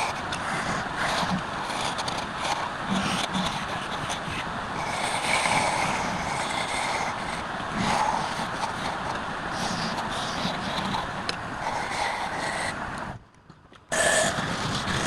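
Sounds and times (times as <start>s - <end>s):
wood lathe tool scraping wood: 0.0s - 12.8s, 13.9s - 15.0s.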